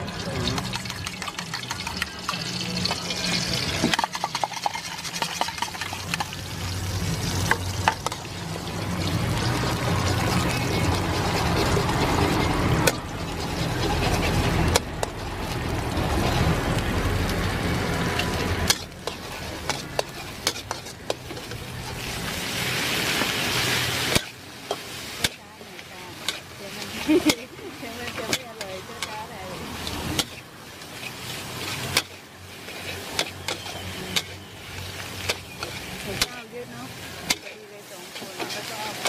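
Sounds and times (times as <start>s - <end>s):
egg sizzling in hot oil: 0.0s - 39.0s
metal ladle scraping wok: 0.0s - 39.0s.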